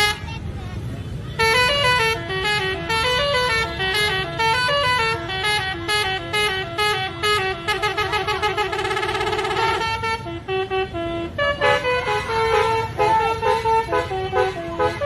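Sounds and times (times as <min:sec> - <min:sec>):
musical bus horn melody: 0:00.0 - 0:00.2, 0:01.4 - 0:15.0.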